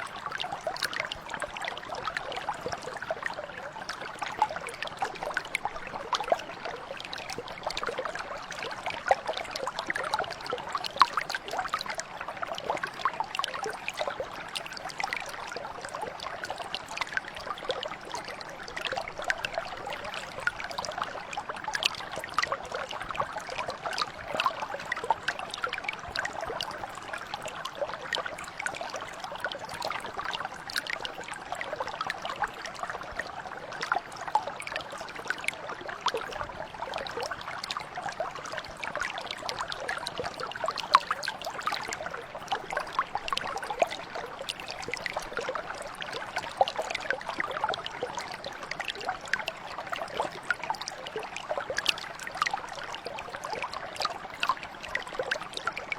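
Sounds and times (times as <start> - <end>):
brook babbling over stones: 0.0 - 55.9.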